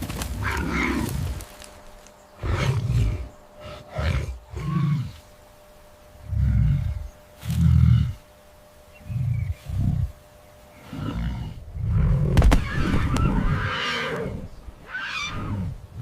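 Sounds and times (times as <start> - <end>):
leopard growling: 0.0 - 1.6, 2.4 - 5.3, 6.2 - 8.3, 9.0 - 16.0.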